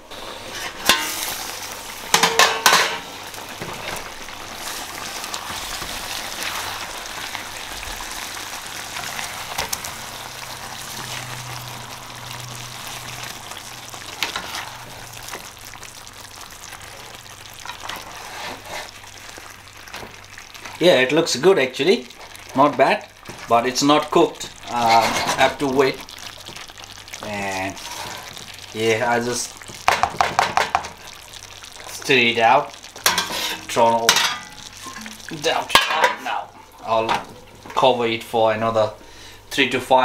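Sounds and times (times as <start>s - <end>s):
chicken sizzling in a pot: 0.0s - 40.0s.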